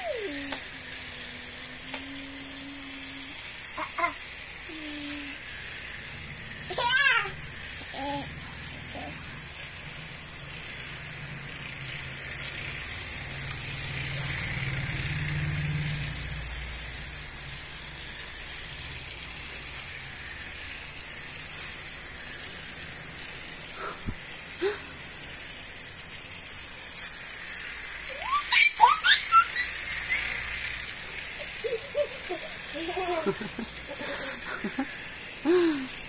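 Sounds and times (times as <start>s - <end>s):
toy train motor whirring: 0.0s - 36.0s.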